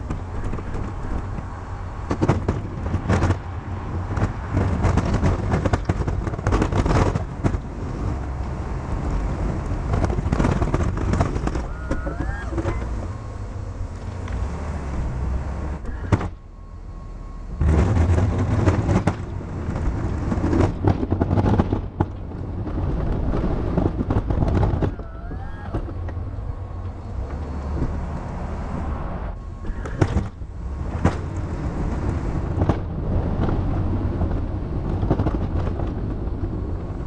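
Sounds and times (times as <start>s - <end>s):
truck engine rumbling under load: 0.0s - 37.0s.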